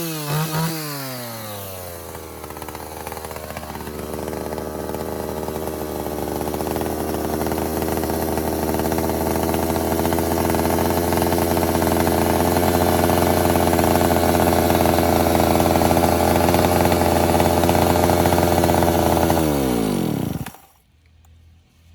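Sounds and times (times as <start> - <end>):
chainsaw engine running: 0.0 - 20.8.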